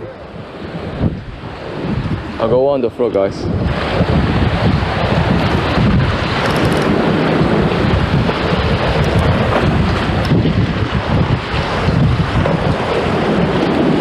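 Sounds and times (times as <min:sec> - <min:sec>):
rough sea washing: 0:00.0 - 0:14.0
wind buffeting microphone: 0:00.0 - 0:14.0.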